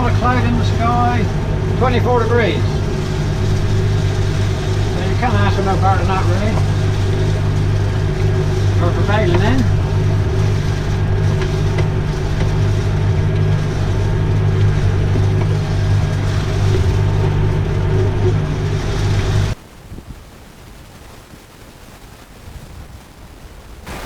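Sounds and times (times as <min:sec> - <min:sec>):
faint wind noise on microphone: 0:00.0 - 0:24.0
tractor engine humming: 0:00.0 - 0:24.0.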